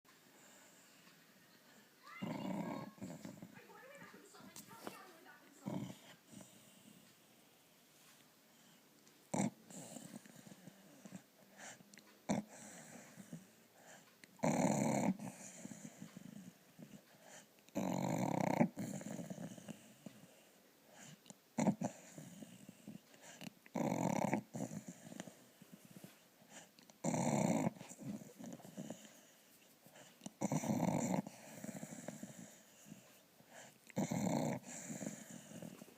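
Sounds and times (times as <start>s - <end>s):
soft breathing: 0.1s - 2.1s, 2.8s - 9.0s, 9.7s - 14.2s, 15.2s - 17.6s, 18.8s - 23.6s, 24.6s - 26.9s, 27.7s - 30.4s, 31.2s - 34.0s, 34.6s - 35.9s
dog snoring: 2.1s - 4.0s, 5.6s - 7.0s, 9.3s - 29.4s, 30.0s - 35.9s.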